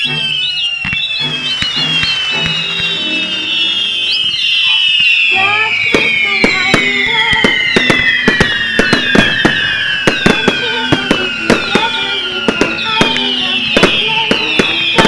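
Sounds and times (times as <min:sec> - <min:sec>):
falling firework whistles: 0:00.0 - 0:15.0
fireworks bangs: 0:00.0 - 0:15.0.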